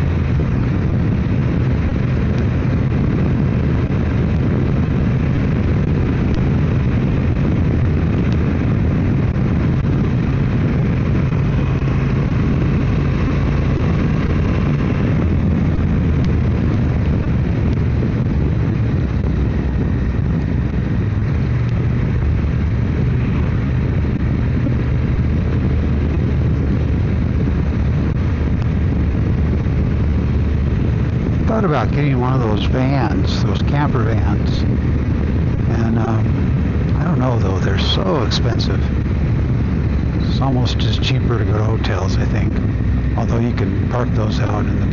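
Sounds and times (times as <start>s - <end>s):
motorcycle engine drone: 0.0s - 44.9s
wind and road noise: 0.0s - 44.9s.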